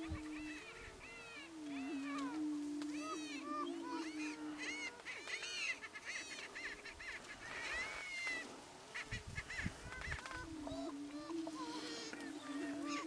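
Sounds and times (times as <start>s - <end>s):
prairie chickens cackling yelps: 0.0s - 13.0s.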